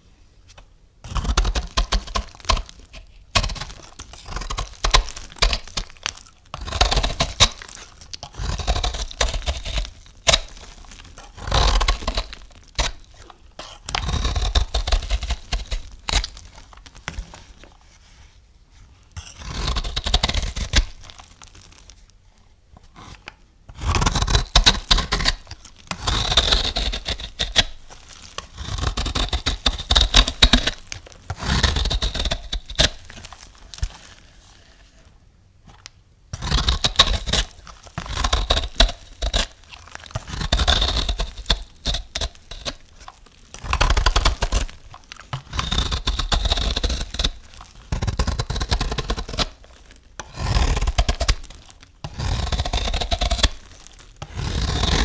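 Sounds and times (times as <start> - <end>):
knife cutting through soap: 1.0 - 18.1, 19.1 - 22.0, 22.8 - 35.0, 35.7 - 55.0.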